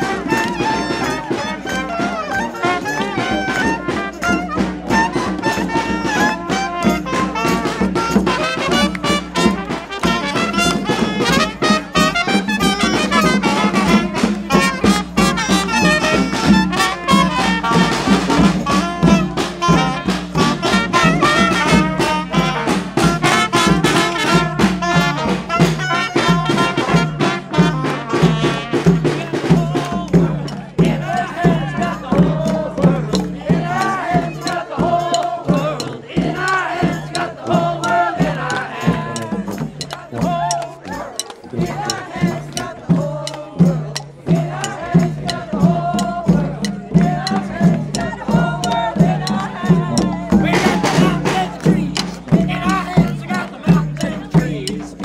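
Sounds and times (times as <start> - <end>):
brass band playing jazzy music: 0.0 - 55.0
snare drum beat: 0.0 - 55.0.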